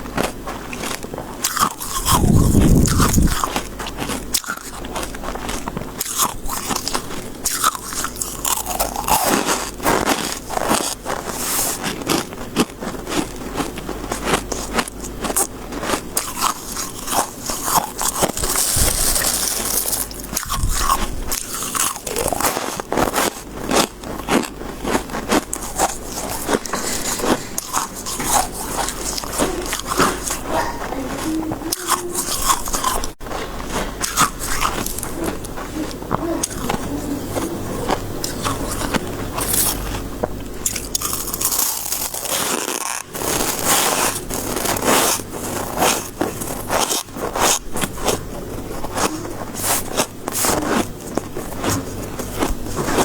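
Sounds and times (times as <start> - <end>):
ice being chewed: 0.0 - 53.0.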